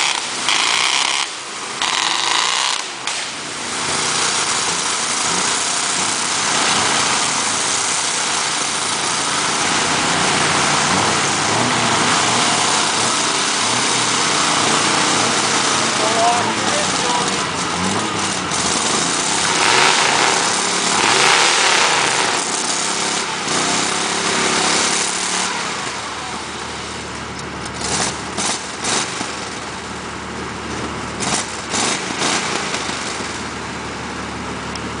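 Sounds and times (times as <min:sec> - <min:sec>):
pickup truck engine revving: 0:00.0 - 0:35.0
tires spinning in mud: 0:00.0 - 0:35.0.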